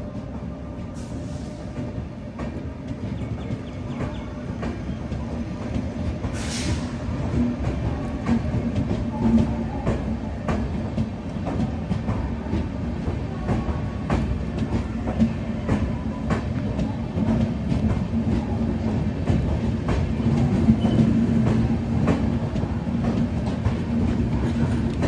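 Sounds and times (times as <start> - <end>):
train coaches rumbling: 0.0 - 25.0.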